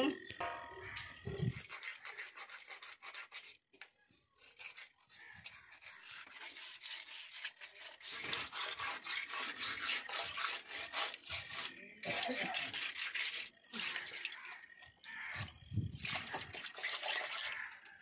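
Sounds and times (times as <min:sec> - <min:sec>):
fish scraping on wet concrete: 0:00.8 - 0:18.0.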